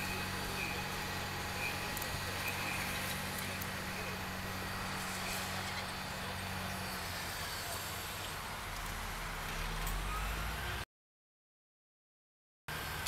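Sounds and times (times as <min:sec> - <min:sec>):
road traffic hum: 0:00.0 - 0:10.9, 0:12.7 - 0:13.0.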